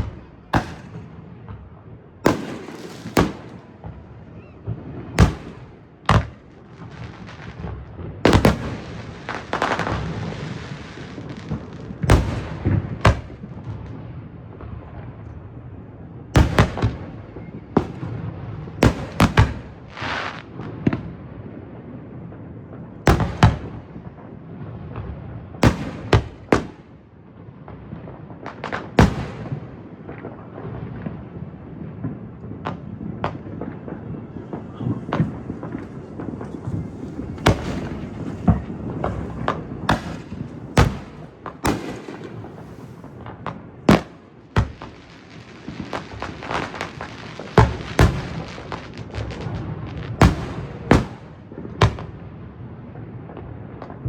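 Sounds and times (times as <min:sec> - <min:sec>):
firework bangs: 0:00.0 - 0:15.3, 0:16.3 - 0:54.0
fireworks crackling and rumbling: 0:00.0 - 0:54.0.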